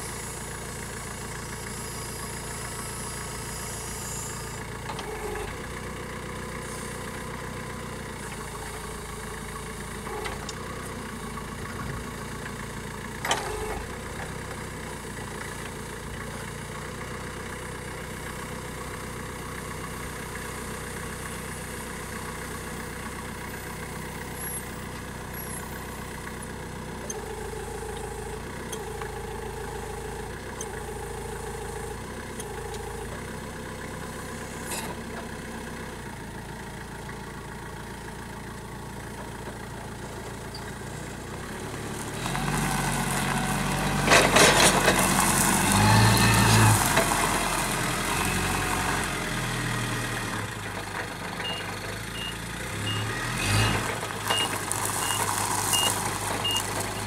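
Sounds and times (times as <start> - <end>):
forklift engine running: 0.0 - 57.0.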